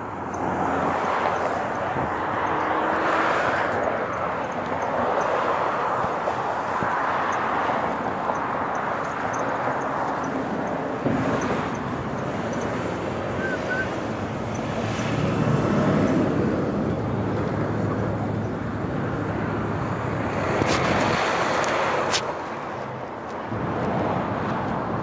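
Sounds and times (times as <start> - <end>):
passing vehicles: 0.0 - 25.0.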